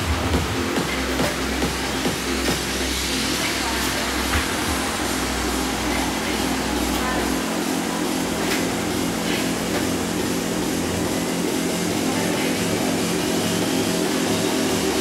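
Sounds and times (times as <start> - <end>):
low hum: 0.0 - 15.0
steady rushing noise: 0.0 - 15.0.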